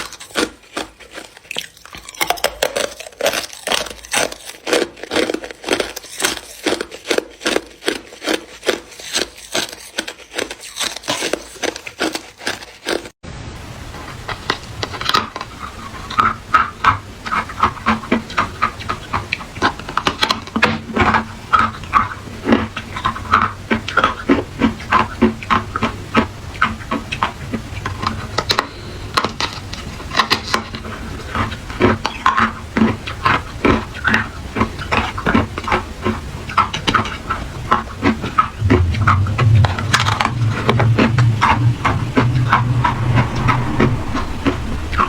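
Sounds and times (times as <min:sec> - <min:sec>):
ice being chewed: 0:00.0 - 0:13.2, 0:14.4 - 0:40.6.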